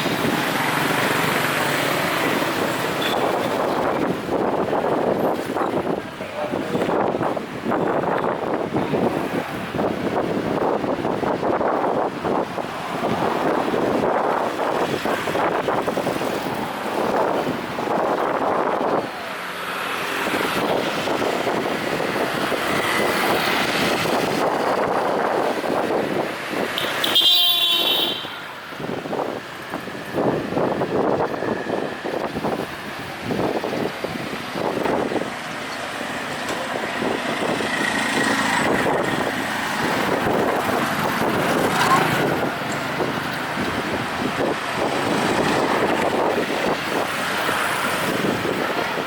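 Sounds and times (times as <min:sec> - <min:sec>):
road noise: 0:00.0 - 0:49.0
street noise: 0:00.0 - 0:49.0.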